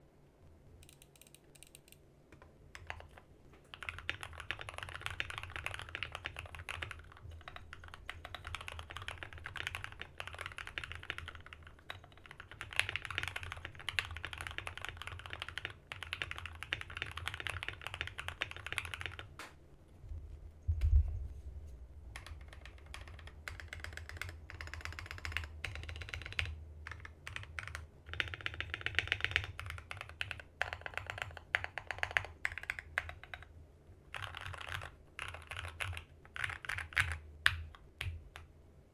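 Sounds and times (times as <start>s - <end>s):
mechanical keyboard typing: 2.8s - 19.4s, 22.2s - 33.5s, 34.1s - 38.5s.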